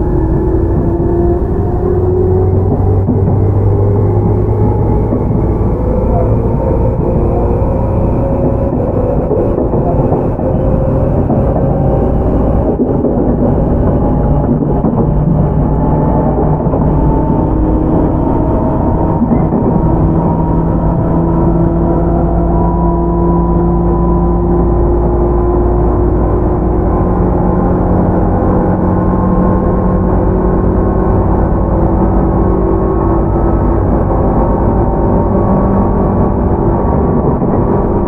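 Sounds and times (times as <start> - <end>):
traction motor whine: 0.0 - 38.0
train wheels rumbling on rail: 0.0 - 38.0.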